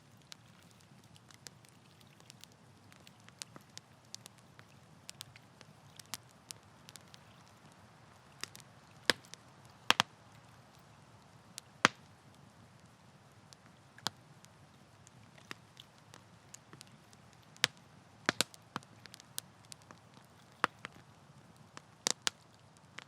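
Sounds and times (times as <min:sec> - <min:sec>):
low burning noise: 0:00.0 - 0:23.0
campfire snaps and pops: 0:00.1 - 0:23.0.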